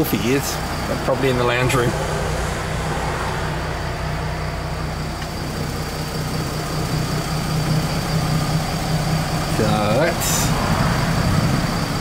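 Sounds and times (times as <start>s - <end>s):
faint high whine: 0.0s - 11.0s
car engine idling: 0.0s - 12.0s.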